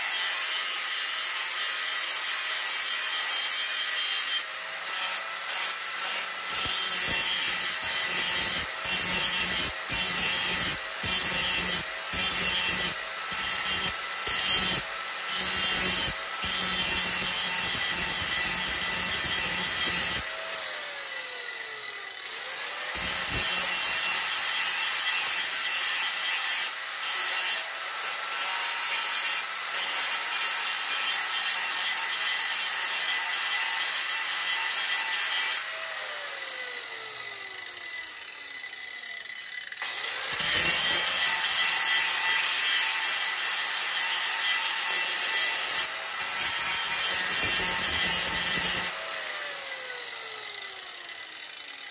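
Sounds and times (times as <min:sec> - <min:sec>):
angle grinder grinding metal: 0:00.0 - 0:51.9.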